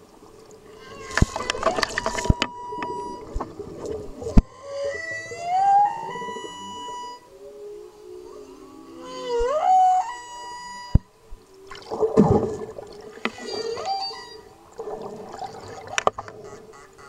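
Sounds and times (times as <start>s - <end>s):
whale song underwater: 0.0s - 17.0s.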